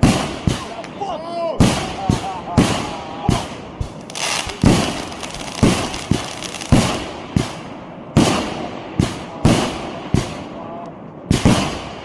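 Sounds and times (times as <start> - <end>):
fireworks bangs: 0.0 - 10.6, 11.2 - 12.0
fireworks crackling: 0.0 - 10.6.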